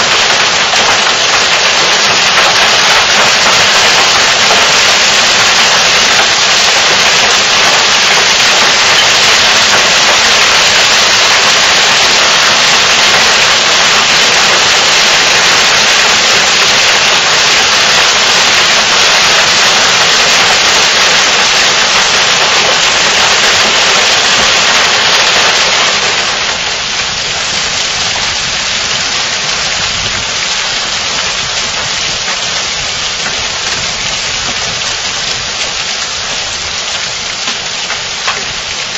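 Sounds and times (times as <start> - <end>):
hail pelting wooden deck: 0.0 - 38.9.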